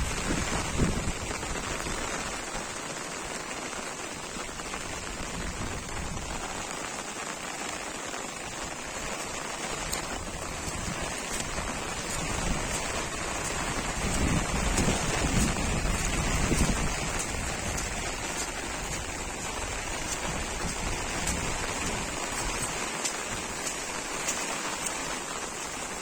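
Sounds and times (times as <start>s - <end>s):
wind buffeting microphone: 0.0s - 2.8s, 4.3s - 6.8s, 8.4s - 26.0s
heavy rain falling: 0.0s - 26.0s.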